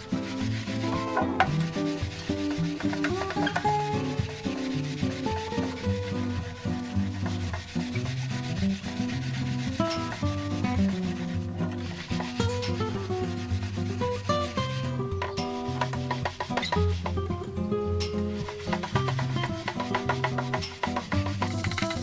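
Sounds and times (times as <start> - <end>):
rubbing scrubbing noise: 0.0 - 17.3, 18.1 - 22.0
plucked instrumental music with bass: 0.0 - 22.0.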